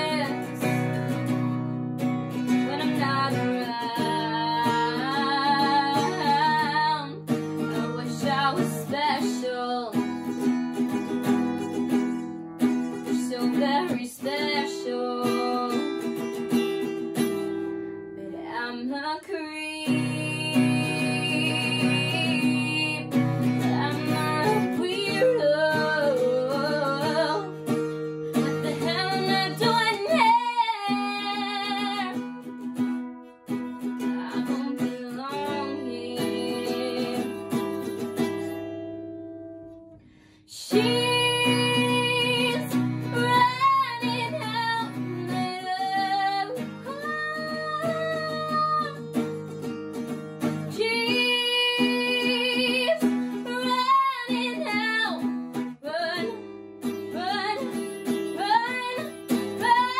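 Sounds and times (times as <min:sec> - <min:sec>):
acoustic guitar strumming: 0:00.0 - 0:19.0, 0:19.8 - 0:59.9
woman singing: 0:00.0 - 0:38.7, 0:40.4 - 0:59.9.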